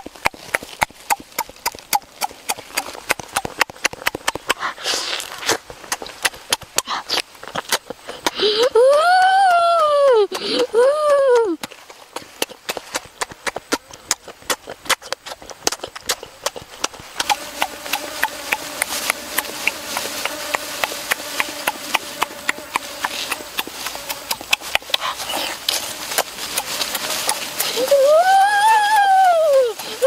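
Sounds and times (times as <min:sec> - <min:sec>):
child chewing: 0:00.0 - 0:30.0.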